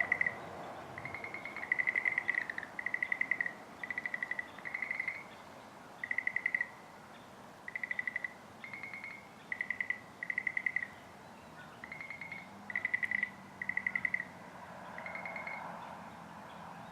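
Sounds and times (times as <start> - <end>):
frogs trilling: 0.0 - 5.4, 6.0 - 6.8, 7.7 - 11.0, 11.7 - 15.8.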